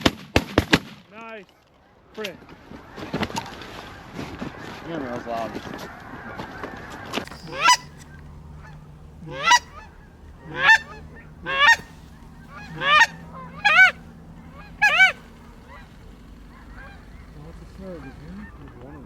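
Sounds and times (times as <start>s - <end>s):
goose honking: 2.2s - 19.0s.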